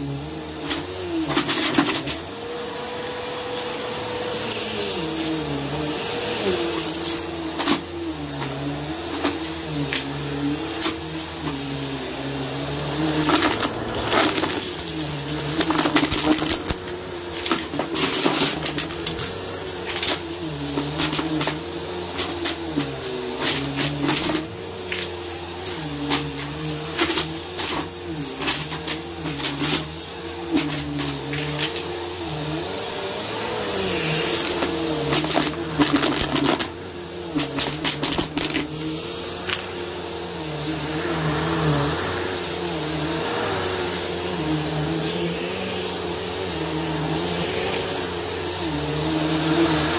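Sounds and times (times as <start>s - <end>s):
vacuum cleaner motor hum: 0.0s - 49.9s.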